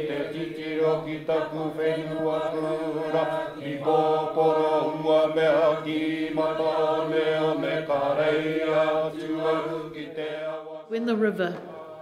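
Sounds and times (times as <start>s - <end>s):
person chanting: 0.0s - 12.0s.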